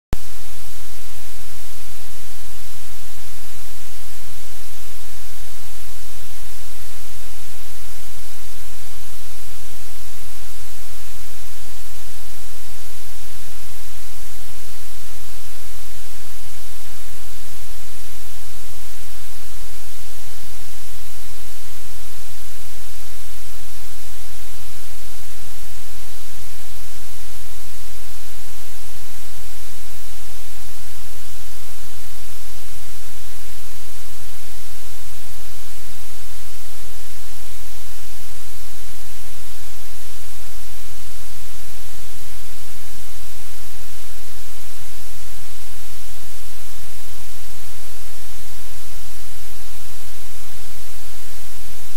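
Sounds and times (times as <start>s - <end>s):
loud static hiss: 0.2s - 51.9s.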